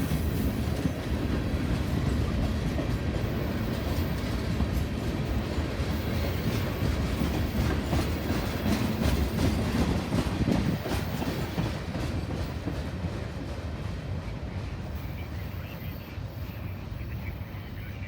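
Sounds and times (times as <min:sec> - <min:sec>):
train wheels clattering on rails: 0:00.0 - 0:16.7.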